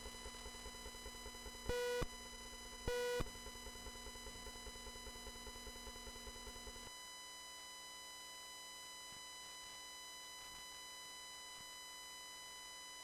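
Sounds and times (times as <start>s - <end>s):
faint high electrical whine: 0.0s - 13.0s.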